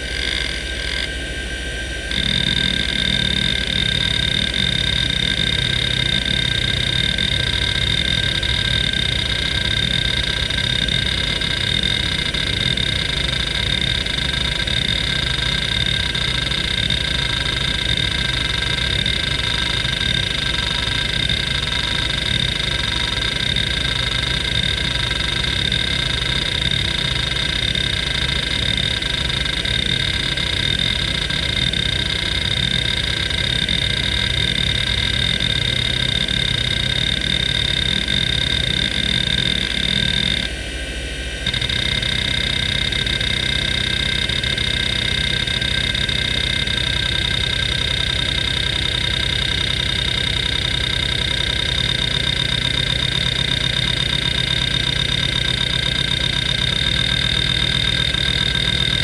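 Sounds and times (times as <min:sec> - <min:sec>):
hard drive high whine: 0:00.0 - 0:59.0.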